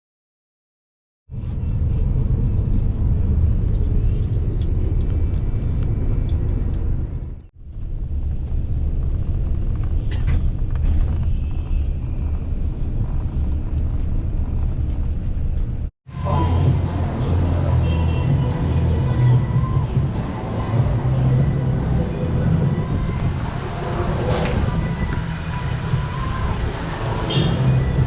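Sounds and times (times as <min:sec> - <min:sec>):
low rumble of traffic: 0:01.3 - 0:28.0.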